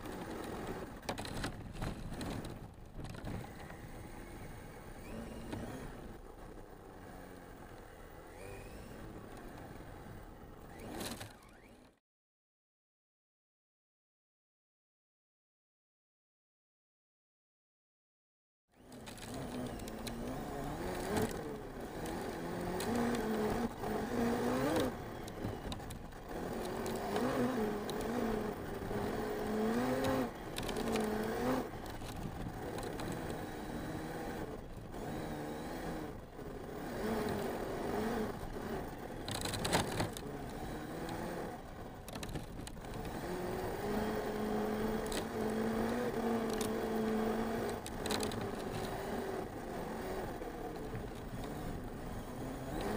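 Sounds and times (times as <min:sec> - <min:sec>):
toy truck motor whining: 0:03.2 - 0:12.0, 0:18.8 - 0:52.9.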